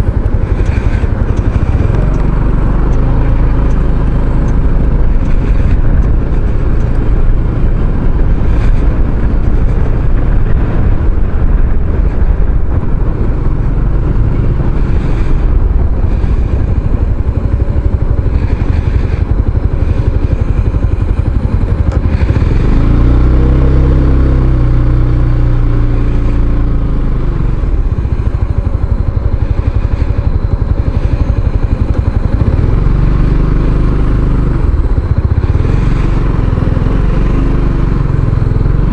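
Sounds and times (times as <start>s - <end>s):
scooter engine running: 0.0s - 38.9s
wind rushing on microphone: 0.0s - 38.9s.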